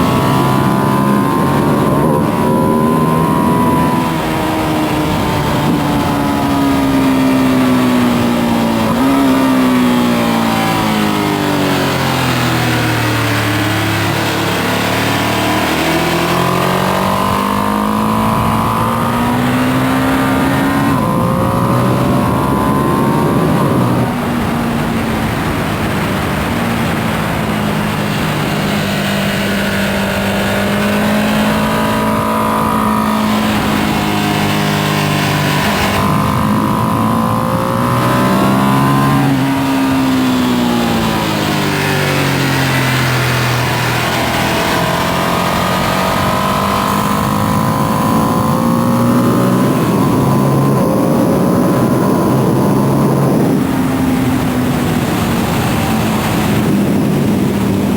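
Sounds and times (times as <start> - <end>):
motorcycle engine at speed: 0.0 - 57.9.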